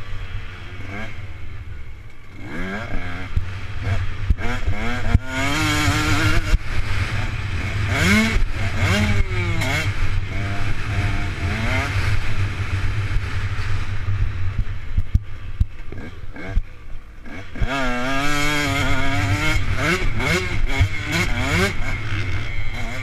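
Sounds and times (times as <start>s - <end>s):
motocross bike engine revving: 0.0s - 1.5s, 2.3s - 15.2s, 15.8s - 23.0s.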